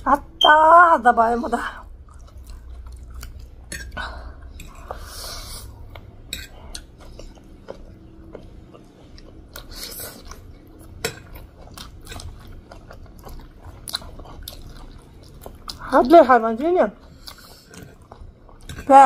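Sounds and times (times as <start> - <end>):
chewing and slurping noodles: 2.0 - 15.9, 17.0 - 18.9.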